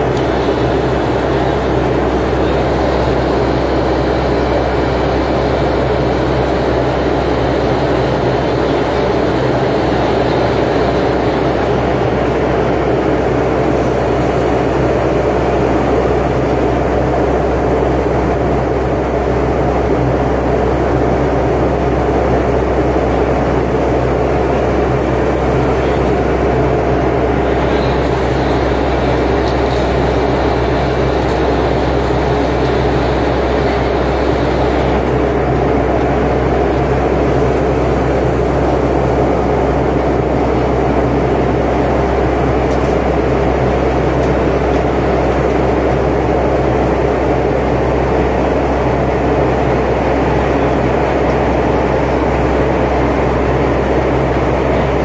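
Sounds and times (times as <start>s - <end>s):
jet engine cabin drone: 0.0s - 55.0s.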